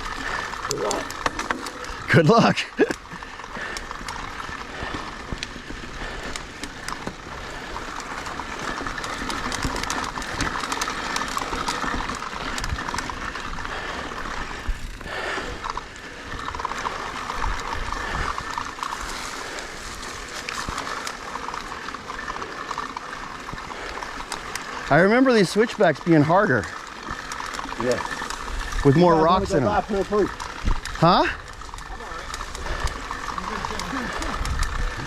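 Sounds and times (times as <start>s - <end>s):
bike frame rattling: 0.0s - 35.0s
bike tyres grinding over rock: 0.0s - 35.0s.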